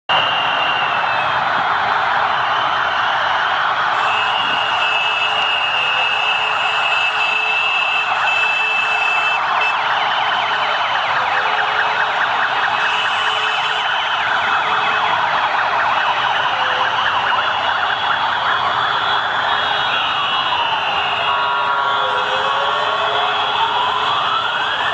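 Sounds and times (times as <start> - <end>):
fast yelping sirens: 0.1 - 24.9
wailing sirens: 0.1 - 24.9.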